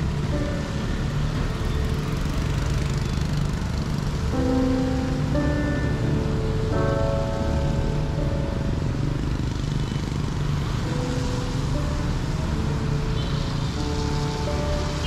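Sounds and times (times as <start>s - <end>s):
motorbike and car engines: 0.0s - 15.0s
road traffic rumble: 0.0s - 15.0s.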